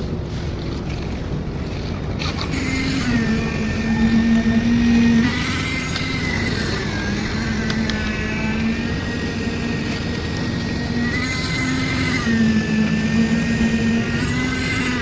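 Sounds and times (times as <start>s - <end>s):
engine-driven machine running: 0.0s - 15.0s.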